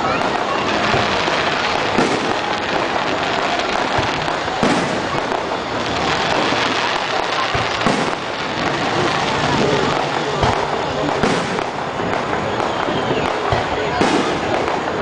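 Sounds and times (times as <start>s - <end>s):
firework bangs: 0.0s - 15.0s
fireworks crackling: 0.0s - 15.0s.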